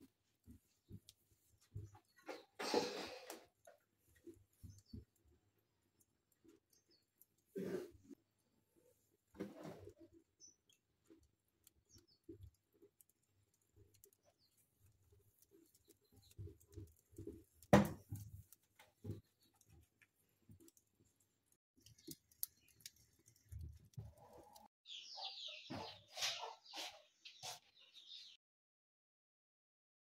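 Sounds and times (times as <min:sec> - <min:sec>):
wood fire crackling: 0:00.0 - 0:24.7.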